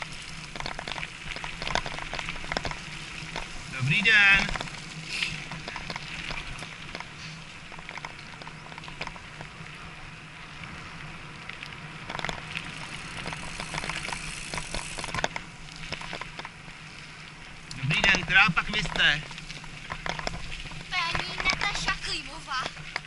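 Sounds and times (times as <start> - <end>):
small clicks and rattles: 0.0 - 9.6, 11.4 - 16.7, 17.6 - 23.0
bike tyres crunching over gravel: 0.0 - 23.0.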